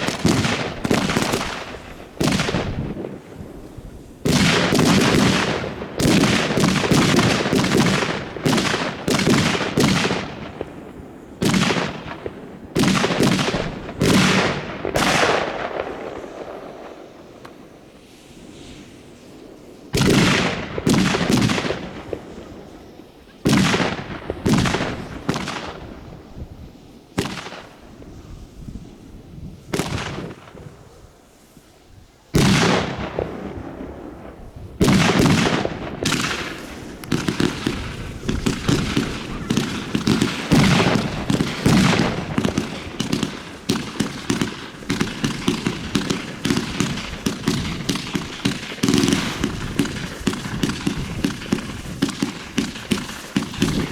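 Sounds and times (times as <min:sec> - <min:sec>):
firework bangs: 0:00.0 - 0:53.9
firework pops and crackles: 0:00.0 - 0:53.9.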